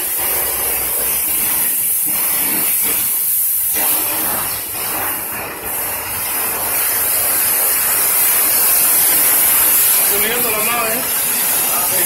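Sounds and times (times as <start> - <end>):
pressure washer spraying water: 0.0 - 12.0.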